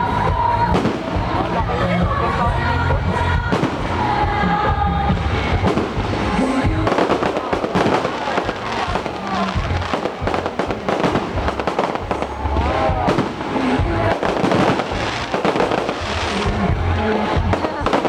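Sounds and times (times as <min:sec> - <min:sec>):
fireworks bursting and crackling: 0:00.0 - 0:18.0
music playing: 0:00.0 - 0:18.0.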